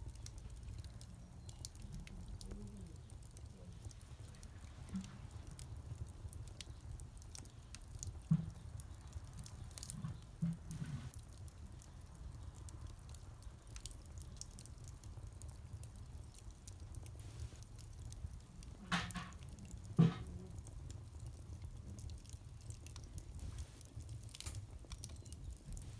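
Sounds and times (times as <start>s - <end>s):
bonfire crackling and popping: 0.0s - 25.9s.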